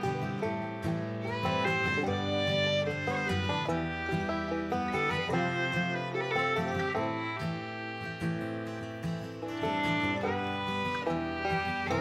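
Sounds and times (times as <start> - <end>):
plucked string instrumental music: 0.0 - 12.0.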